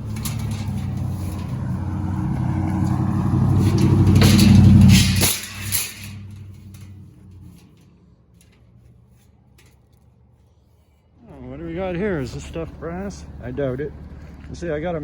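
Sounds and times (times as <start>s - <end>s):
vehicle engine running: 0.0s - 10.0s, 11.3s - 15.0s.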